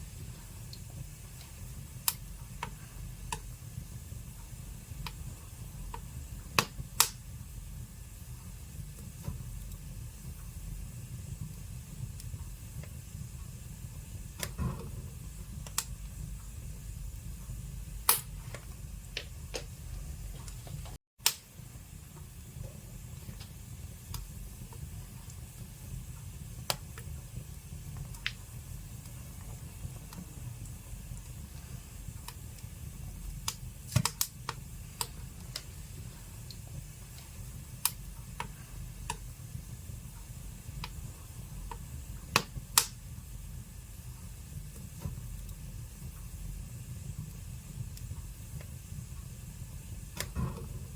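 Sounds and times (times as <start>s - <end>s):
fire crackling and popping: 0.0s - 50.9s
fire rumbling: 0.0s - 50.9s.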